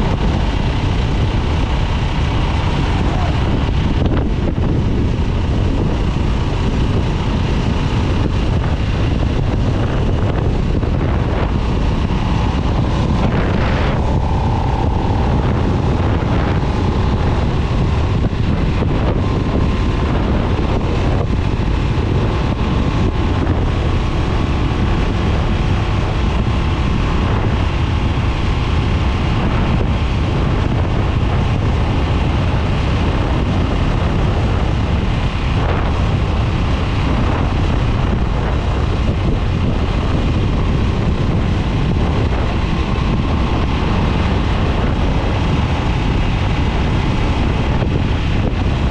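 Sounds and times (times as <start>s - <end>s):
motorcycle engine running: 0.0s - 48.9s
wind buffeting microphone: 0.0s - 48.9s.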